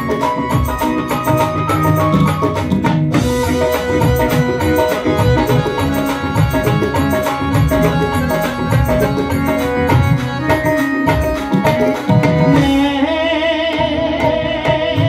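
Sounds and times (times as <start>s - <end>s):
held notes with vibrato: 0.0s - 13.8s
drum beaten with a stick: 0.0s - 15.0s
keyboard notes: 0.0s - 15.0s.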